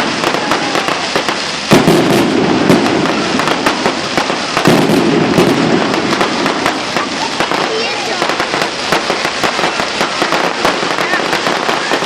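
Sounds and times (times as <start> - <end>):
fireworks crackling and popping: 0.0 - 12.0
heavy firework bangs: 0.0 - 12.0.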